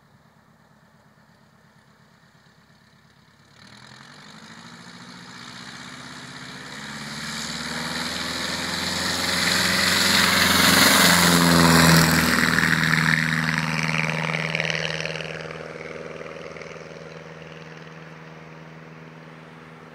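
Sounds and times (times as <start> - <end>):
light aircraft engine and propeller: 0.0 - 19.9.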